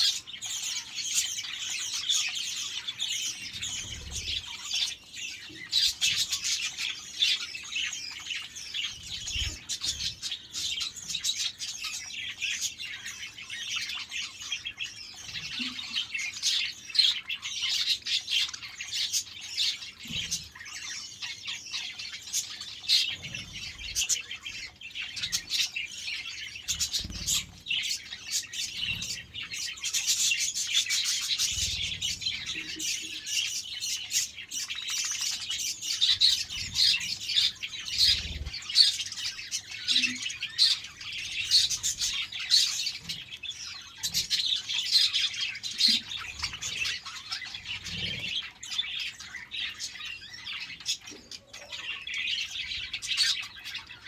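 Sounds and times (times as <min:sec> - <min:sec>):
budgerigars chattering and chirping: 0:00.0 - 0:54.0.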